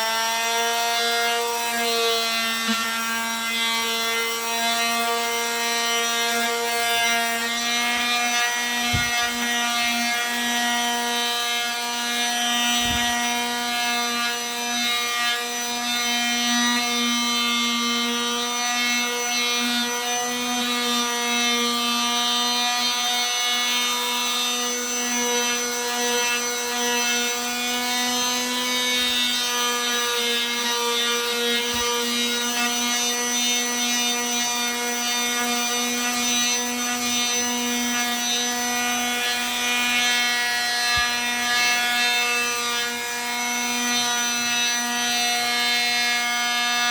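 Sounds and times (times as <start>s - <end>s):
oscillating multi-tool sanding wood: 0.0s - 46.9s.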